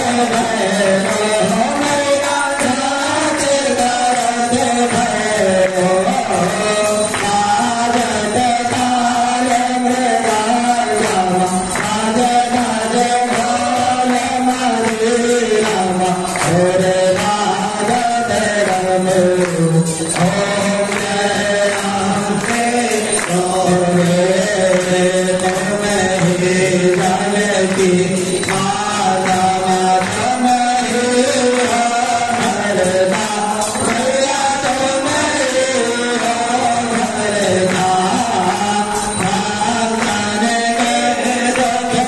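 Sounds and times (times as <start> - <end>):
devotional hymn chanting: 0.0 - 42.0.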